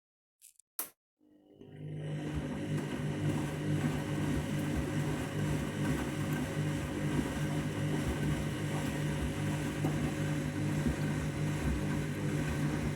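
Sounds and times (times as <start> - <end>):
washing machine spinning: 1.6 - 12.9.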